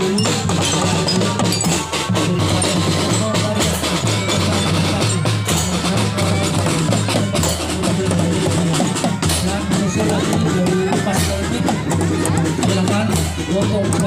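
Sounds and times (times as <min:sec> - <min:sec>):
marching drum band: 0:00.0 - 0:14.0.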